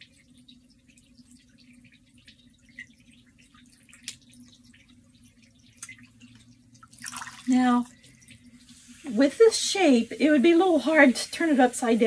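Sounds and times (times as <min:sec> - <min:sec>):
water dripping: 0:00.0 - 0:12.0.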